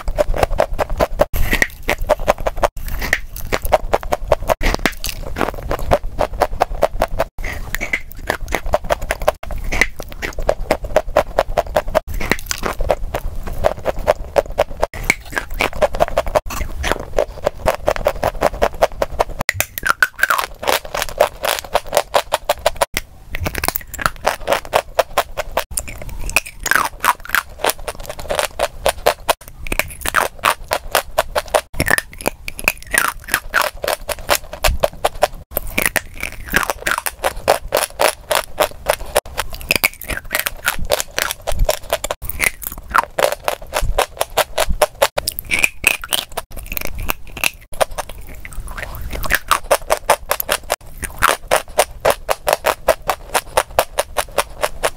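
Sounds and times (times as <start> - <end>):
chewing chalk crunching: 0.0 - 54.9.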